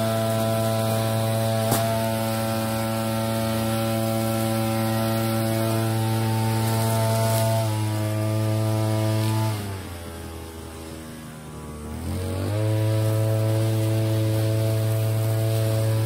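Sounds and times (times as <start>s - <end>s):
brush cutter engine whine: 0.0s - 16.0s.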